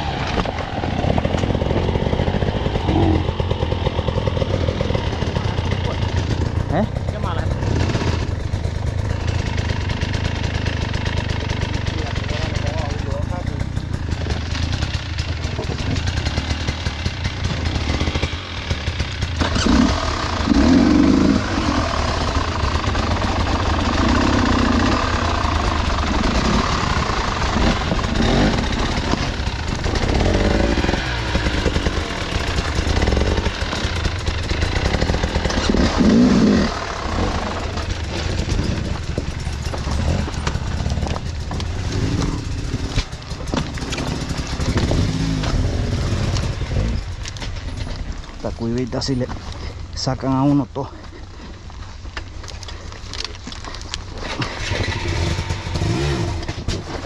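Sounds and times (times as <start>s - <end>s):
off-road motorcycle engine revving: 0.0s - 57.0s.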